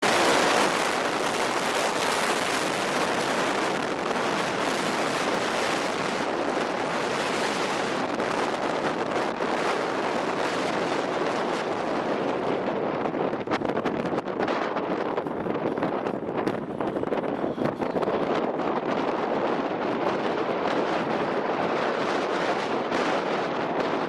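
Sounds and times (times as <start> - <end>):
heavy city traffic roar: 0.0 - 24.0.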